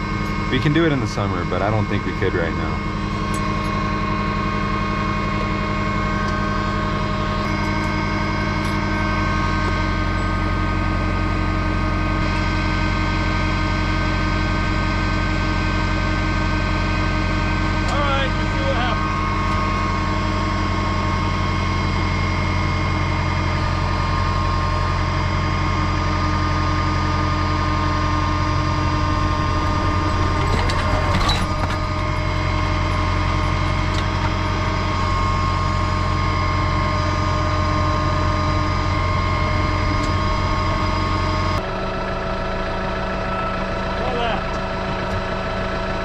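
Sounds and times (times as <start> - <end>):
tractor engine idling: 0.0 - 46.0.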